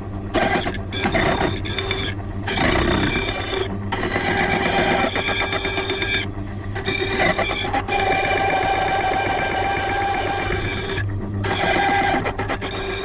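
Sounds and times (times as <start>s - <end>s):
key-cutting machine milling metal: 0.4s - 13.0s.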